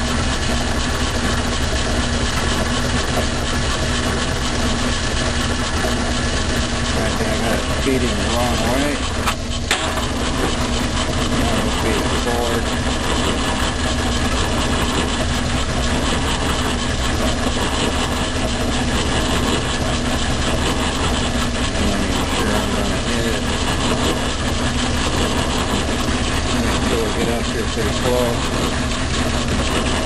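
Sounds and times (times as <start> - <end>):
metal lathe cutting aluminum: 0.0 - 30.0.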